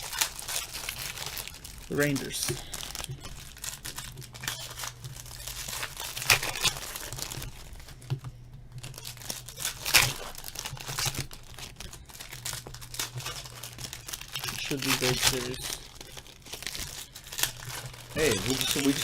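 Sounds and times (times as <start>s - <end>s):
wrapper ripping: 0.0s - 8.0s, 8.8s - 19.0s
wrappers crinkling: 0.0s - 19.0s.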